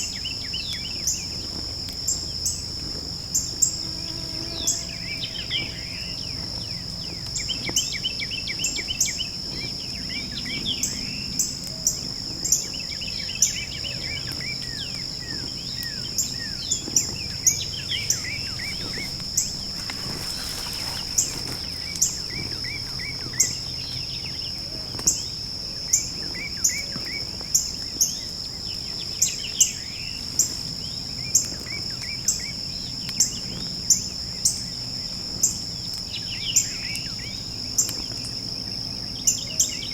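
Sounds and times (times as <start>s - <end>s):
high-pitched insect trill: 0.0s - 39.9s
songbirds chirping: 0.0s - 39.9s.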